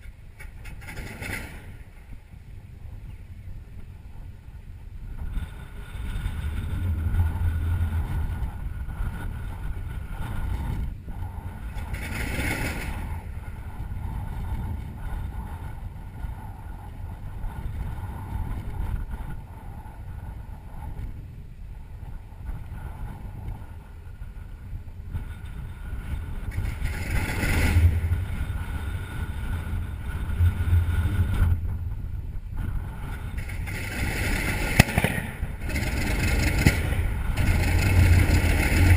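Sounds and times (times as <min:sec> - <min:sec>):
radial engine deep rumble: 0:00.0 - 0:38.9.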